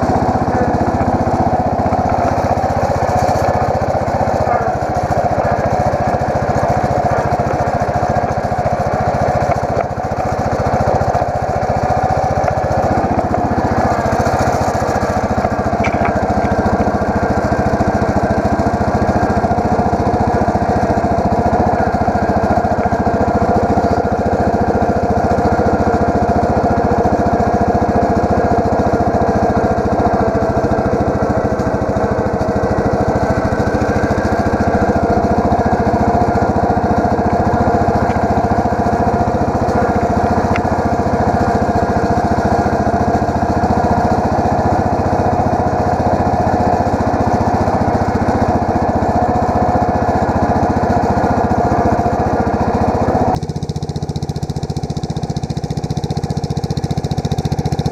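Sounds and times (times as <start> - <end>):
garden tractor engine running: 0.0 - 57.9.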